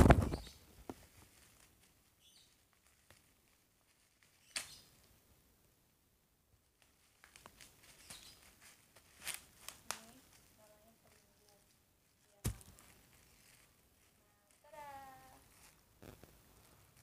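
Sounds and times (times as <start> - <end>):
plastic packaging crinkling: 0.0 - 4.9, 6.8 - 17.0.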